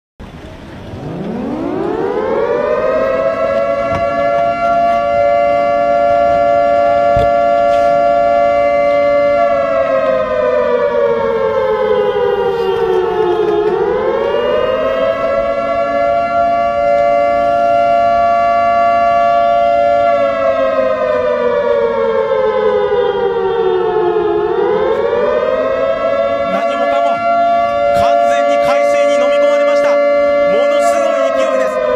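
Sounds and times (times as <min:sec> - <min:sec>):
civil defense siren wailing: 0:00.2 - 0:31.9.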